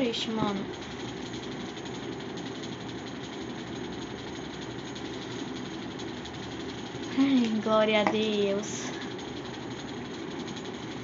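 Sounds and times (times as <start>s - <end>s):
fast even rattle: 0.0s - 11.0s
small motor humming: 0.0s - 11.0s.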